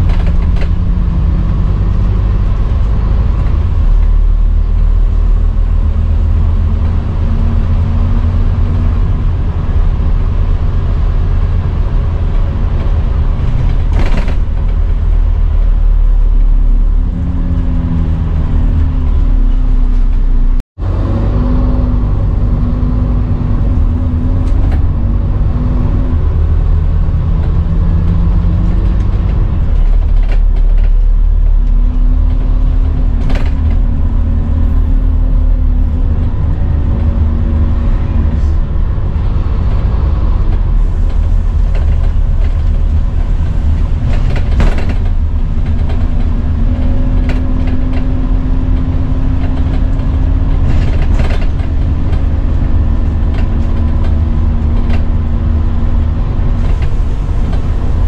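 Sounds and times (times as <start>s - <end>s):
bus body rattles and knocks: 0.0s - 20.9s, 22.0s - 58.0s
bus diesel engine rumble: 0.0s - 58.0s.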